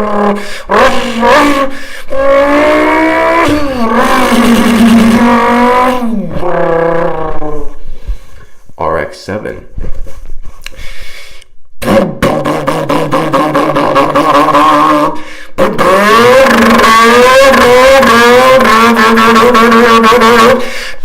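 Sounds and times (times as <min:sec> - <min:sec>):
man imitating engine revving: 0:00.0 - 0:07.8, 0:11.8 - 0:21.0.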